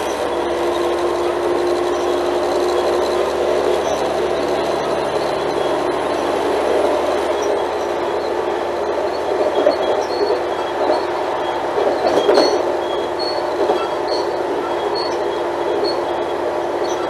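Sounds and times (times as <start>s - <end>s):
railcar engine and rolling drone: 0.0s - 17.0s.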